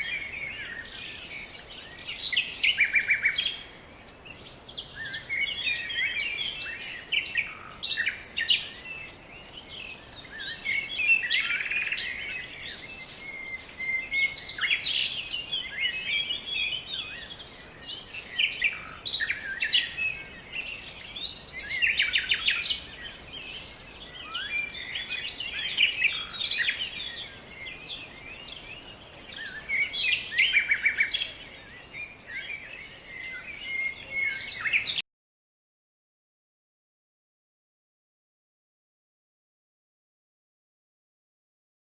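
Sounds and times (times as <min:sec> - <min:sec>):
birds chirping and trilling: 0:00.0 - 0:35.0.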